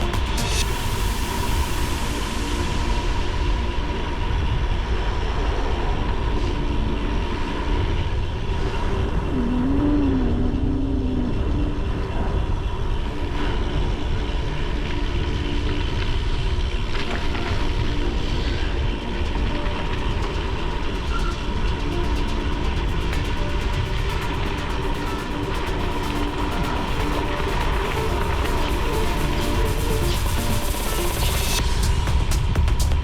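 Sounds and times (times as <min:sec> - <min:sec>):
wind on microphone: 0:01.2 - 0:33.0.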